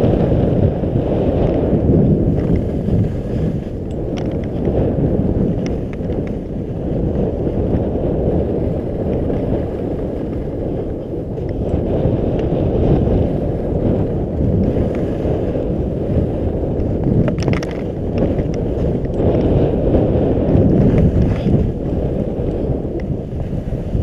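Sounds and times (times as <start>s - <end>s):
skis running over snow: 0.0s - 24.0s
wind on microphone: 0.0s - 24.0s
ski scraping: 0.1s - 24.0s.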